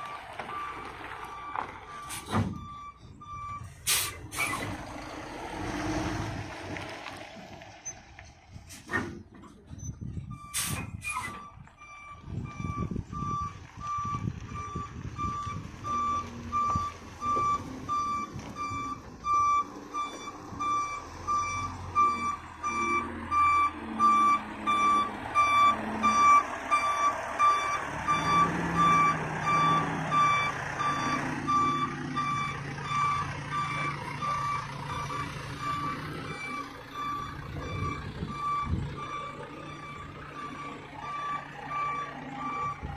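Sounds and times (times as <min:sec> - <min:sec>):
reversing alarm beeping: 0:00.0 - 0:03.8, 0:09.8 - 0:42.9.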